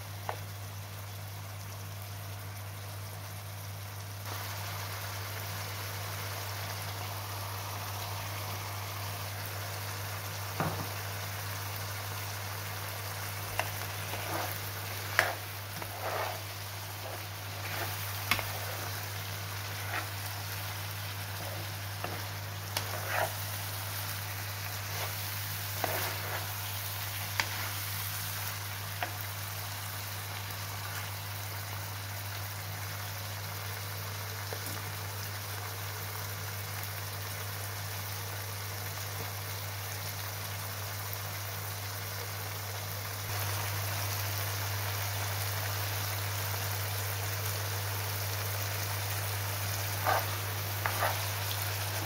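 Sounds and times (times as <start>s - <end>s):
food sizzling in a frying pan: 0.0s - 52.0s.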